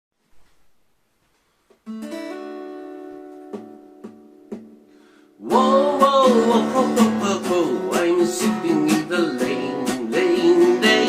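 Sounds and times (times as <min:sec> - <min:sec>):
acoustic guitar strumming: 0:01.8 - 0:11.0.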